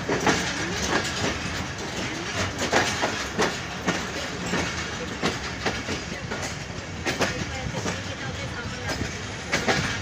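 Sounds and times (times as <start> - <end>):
train wheels rumbling: 0.0 - 10.0
wheels clacking over rail joints: 0.0 - 10.0.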